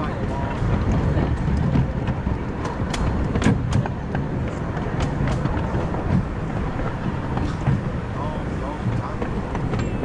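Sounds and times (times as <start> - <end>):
train cars rumbling: 0.0 - 10.0
wheels clicking over rail joints: 0.0 - 10.0.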